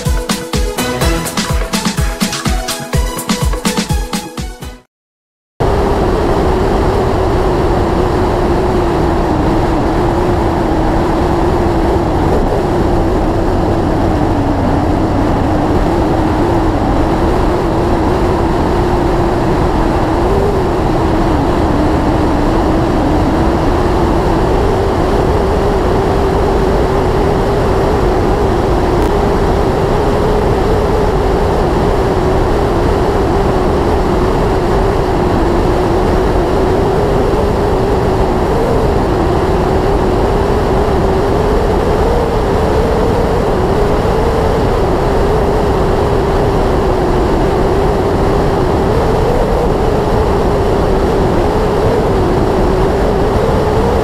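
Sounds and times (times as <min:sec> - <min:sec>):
road noise: 0:05.6 - 0:52.8
rushing wind: 0:05.6 - 0:54.0.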